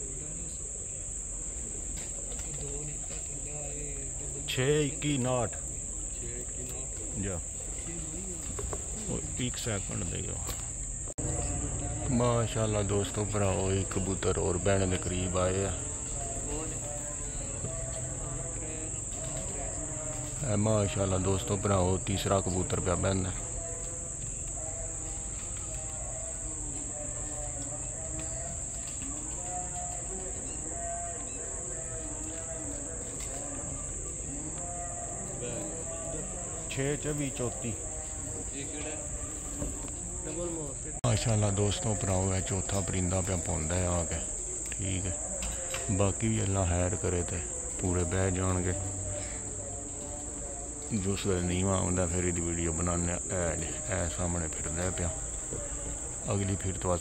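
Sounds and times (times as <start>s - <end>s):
crickets trilling: 0.0s - 57.0s
faint voices talking: 0.0s - 57.0s.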